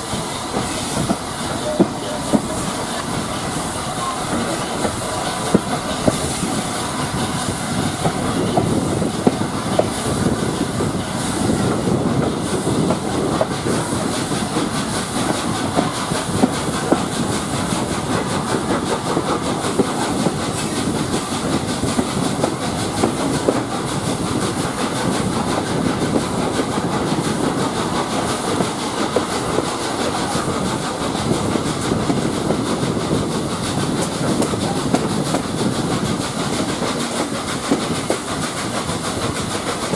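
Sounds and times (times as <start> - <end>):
train wheels rumbling on rails: 0.0 - 39.9
wheels clicking over rail joints: 0.0 - 39.9.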